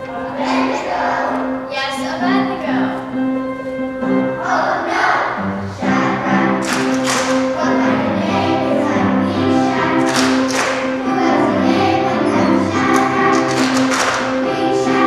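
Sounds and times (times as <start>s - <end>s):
children's choir singing: 0.0s - 15.0s
instrumental accompaniment: 0.0s - 15.0s.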